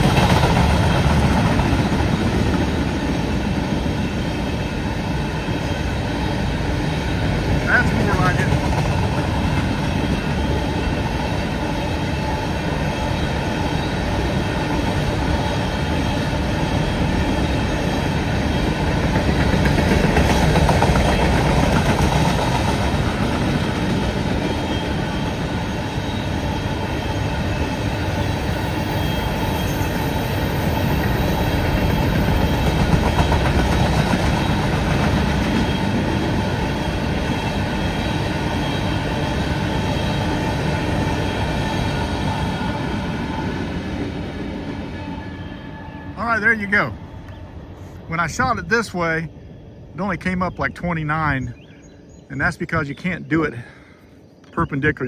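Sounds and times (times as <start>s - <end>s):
freight train wheels rumbling on rails: 0.0s - 54.6s.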